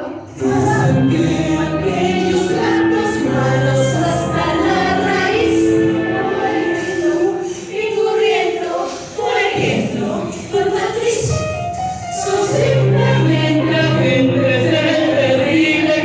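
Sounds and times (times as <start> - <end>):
group singing musical number: 0.0 - 16.0
instrumental backing: 0.0 - 16.0.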